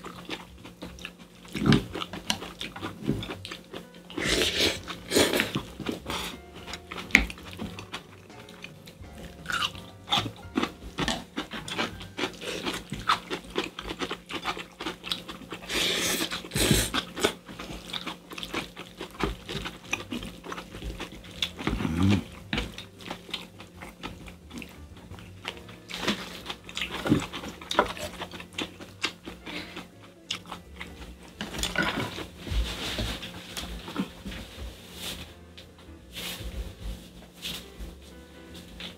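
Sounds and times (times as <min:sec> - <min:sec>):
people chewing and slurping: 0:00.0 - 0:35.4
steady low hum: 0:00.0 - 0:38.9.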